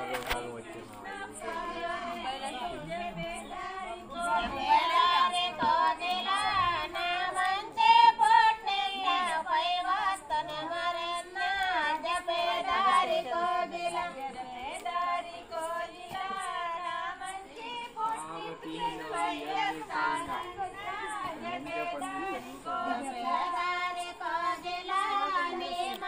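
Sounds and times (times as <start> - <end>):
women and girls singing unaccompanied: 0.0 - 26.0.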